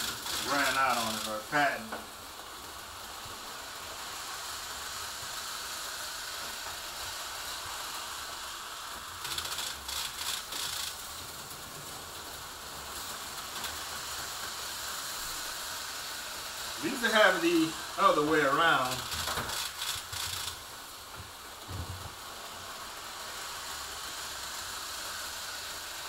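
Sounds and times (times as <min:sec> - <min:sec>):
whirring rattle of slot cars: 0:00.0 - 0:26.0.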